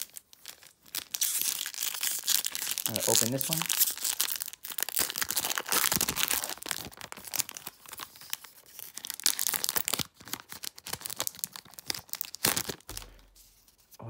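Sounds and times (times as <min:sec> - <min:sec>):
foil wrapper tearing and crinkling: 0:00.0 - 0:13.5.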